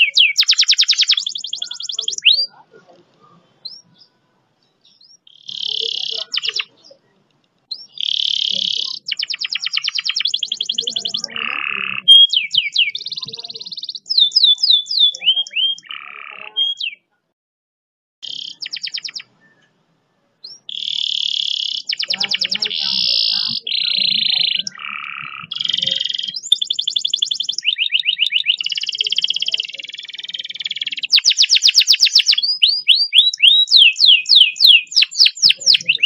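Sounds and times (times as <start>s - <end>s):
canary singing trills: 0.0s - 17.1s, 18.2s - 19.8s, 20.4s - 36.0s.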